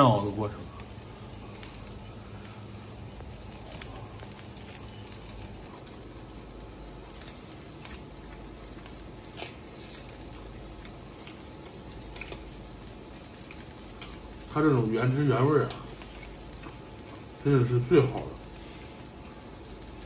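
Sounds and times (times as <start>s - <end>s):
low steady hum: 0.0s - 20.0s
meat sizzling on a grill: 0.0s - 20.0s.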